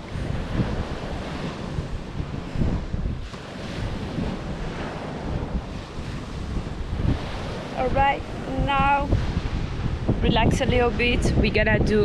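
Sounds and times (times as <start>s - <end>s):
ocean surf washing: 0.0s - 12.0s
wind buffeting microphone: 0.0s - 12.0s.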